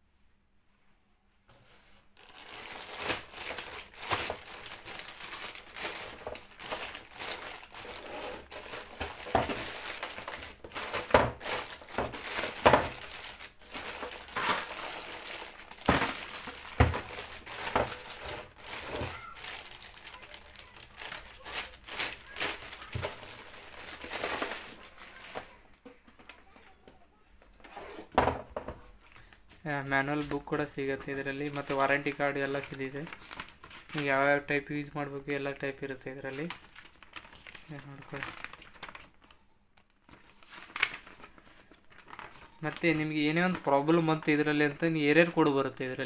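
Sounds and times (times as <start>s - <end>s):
plastic bag crinkling: 2.2s - 25.7s, 30.0s - 46.0s.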